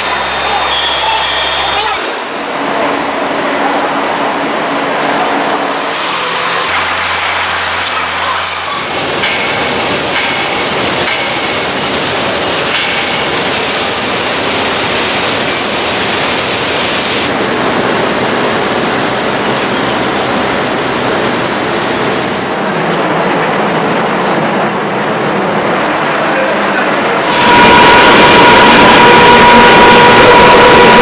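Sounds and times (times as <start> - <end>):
loud rushing noise: 0.0 - 31.0.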